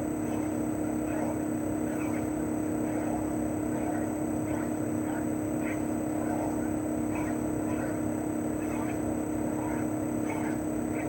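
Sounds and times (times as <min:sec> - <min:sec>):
compressor hum: 0:00.0 - 0:11.0.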